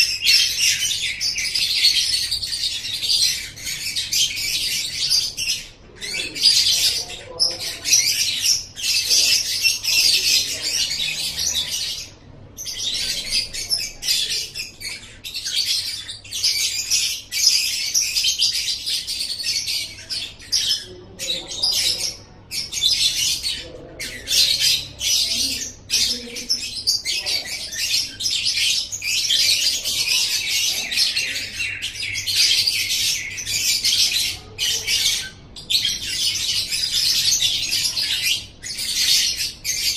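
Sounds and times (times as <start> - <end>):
bird high-pitched chattering song: 0.0 - 39.9.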